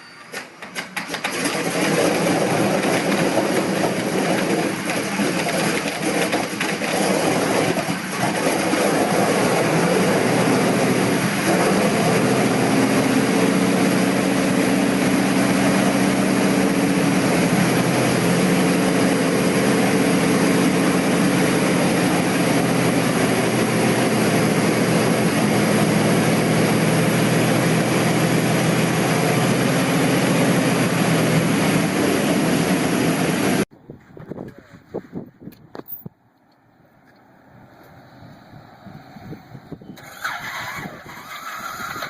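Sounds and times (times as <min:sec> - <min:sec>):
piston aircraft engine running: 0:00.0 - 0:33.7.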